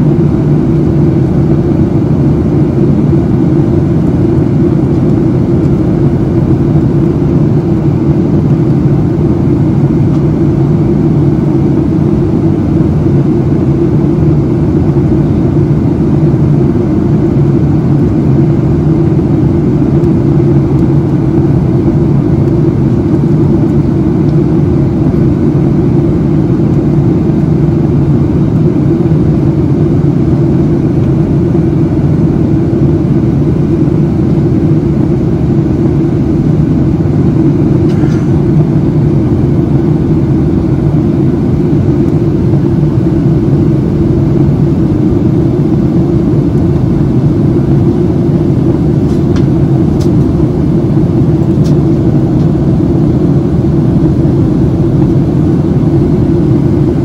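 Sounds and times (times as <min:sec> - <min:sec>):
airplane cabin rush and hum: 0:00.0 - 0:57.0.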